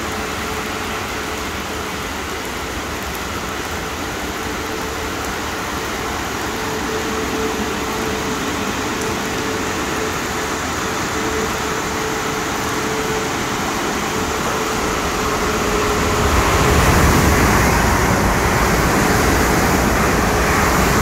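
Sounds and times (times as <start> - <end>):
heavy rain falling: 0.0 - 21.0
steady mechanical hum: 0.0 - 21.0.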